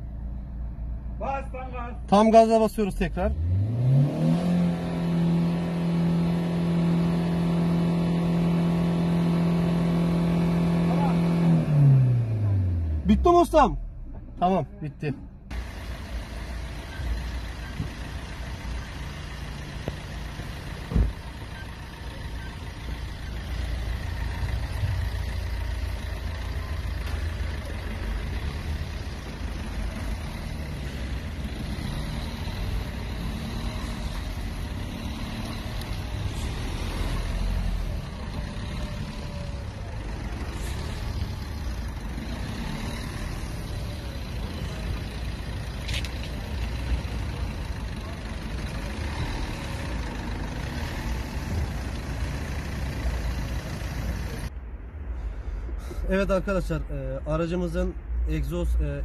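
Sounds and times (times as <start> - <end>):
street traffic: 0.0 - 59.0
car engine idling: 4.8 - 56.2.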